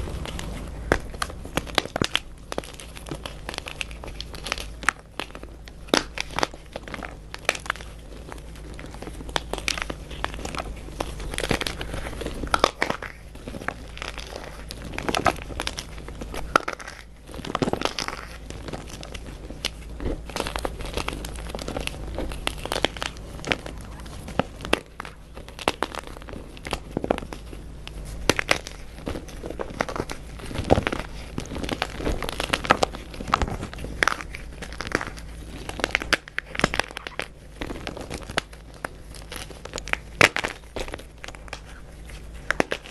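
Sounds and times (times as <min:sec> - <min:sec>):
chalk being crushed: 0:00.0 - 0:42.9.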